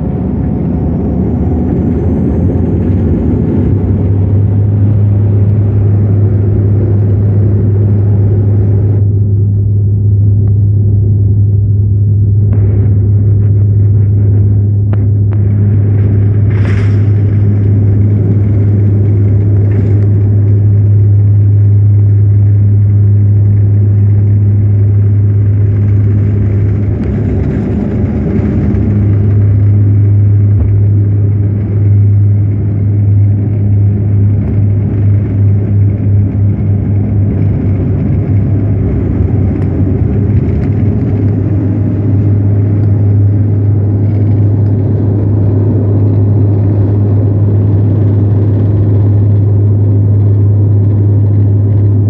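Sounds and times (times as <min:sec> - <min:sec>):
airliner engine drone in cabin: 0:00.0 - 0:52.0.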